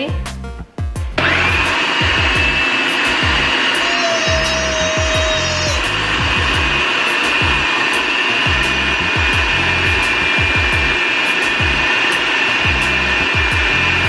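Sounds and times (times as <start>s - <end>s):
food processor grinding: 1.2s - 14.0s.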